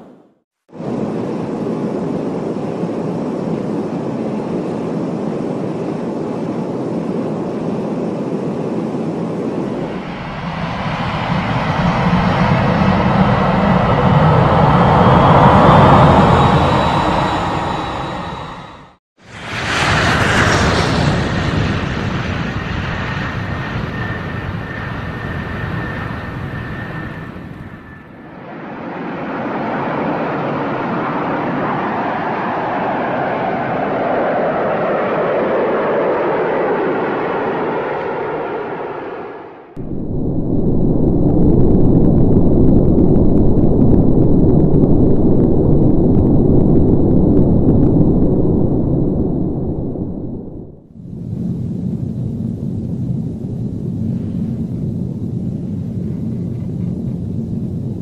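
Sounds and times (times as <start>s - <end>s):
jet airliner flying by: 0.0s - 58.0s
thin high engine whine: 0.0s - 58.0s.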